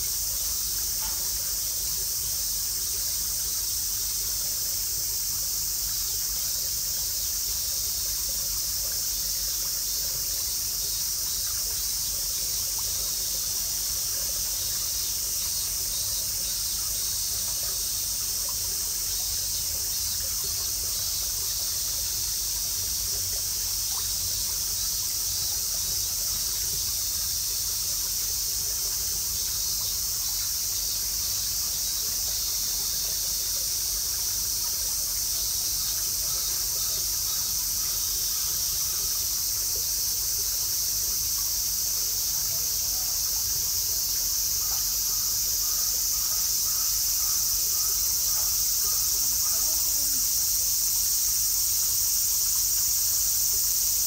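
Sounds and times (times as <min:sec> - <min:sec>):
cicadas droning: 0:00.0 - 0:54.0.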